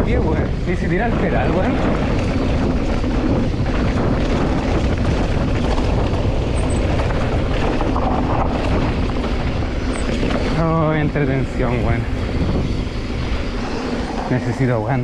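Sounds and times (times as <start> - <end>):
tyres rolling over loose rock: 0.0 - 14.3
mountain bike rattling: 0.0 - 15.0
wind buffeting microphone: 0.0 - 15.0.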